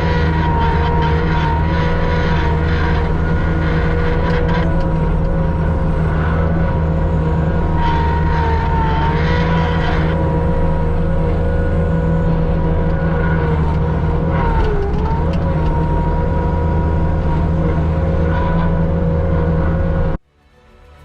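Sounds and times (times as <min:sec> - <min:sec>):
machinery droning with a whine: 0:00.0 - 0:21.0.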